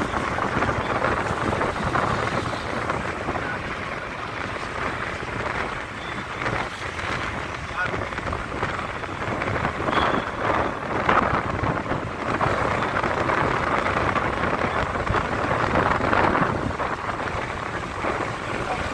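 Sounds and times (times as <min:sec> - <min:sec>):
road and traffic noise: 0:00.0 - 0:18.9
wind rushing over microphone: 0:00.0 - 0:18.9.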